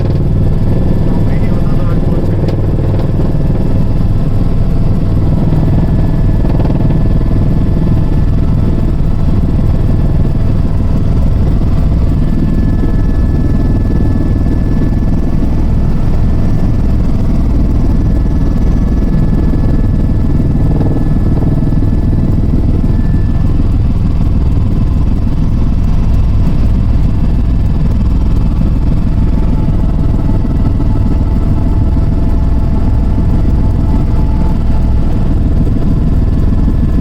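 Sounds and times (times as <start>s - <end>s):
helicopter engine and rotor: 0.0s - 37.0s
faint high whine: 4.9s - 25.2s, 27.4s - 37.0s.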